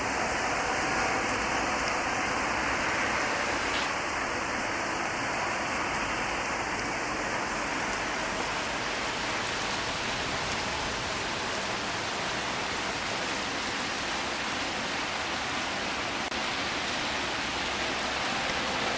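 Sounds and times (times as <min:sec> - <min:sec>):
heavy rain hissing: 0:00.0 - 0:18.9.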